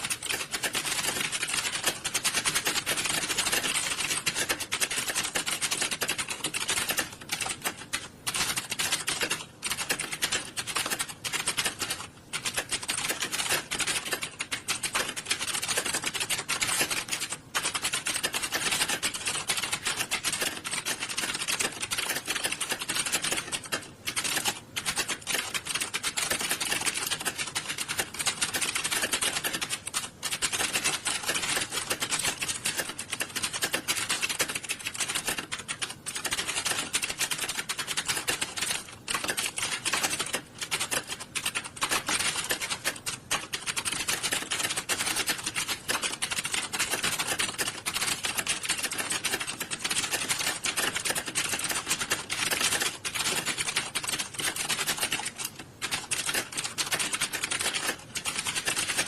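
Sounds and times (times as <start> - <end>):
many keyboards typing: 0.0 - 59.0.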